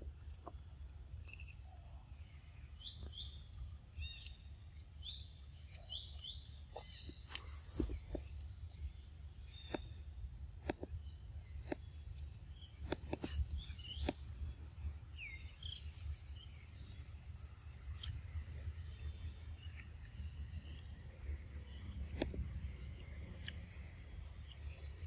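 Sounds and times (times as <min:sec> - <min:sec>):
bird chirps: 0:01.2 - 0:25.0.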